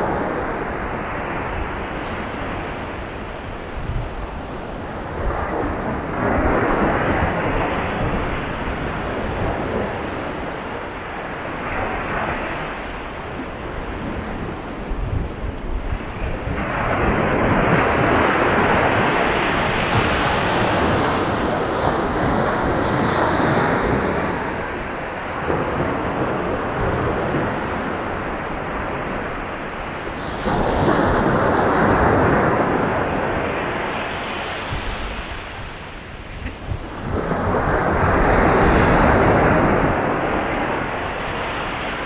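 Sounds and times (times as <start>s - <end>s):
surf washing onto beach: 0.0s - 42.0s
wind buffeting microphone: 0.0s - 42.0s.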